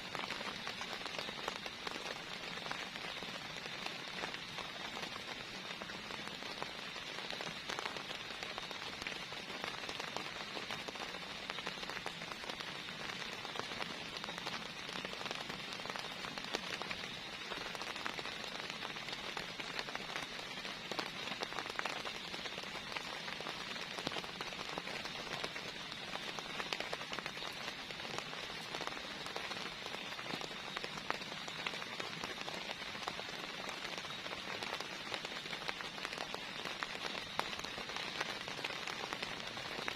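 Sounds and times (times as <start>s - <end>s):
heavy rain falling: 0.0s - 39.9s
raindrops ticking on a surface: 0.0s - 39.9s.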